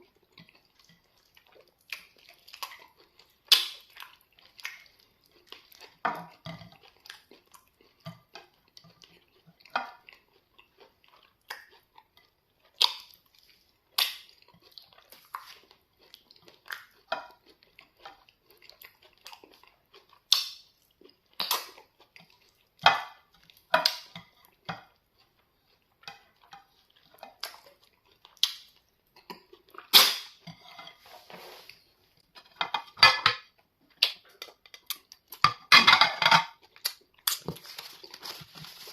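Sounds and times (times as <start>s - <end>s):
wet chewing and mouth clicks: 0.0s - 30.6s, 33.4s - 35.7s, 36.5s - 38.9s.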